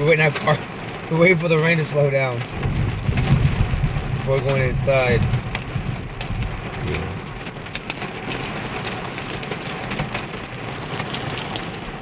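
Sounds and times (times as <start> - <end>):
heavy rain on a car: 0.0 - 12.0
raindrops hitting car body: 0.0 - 12.0.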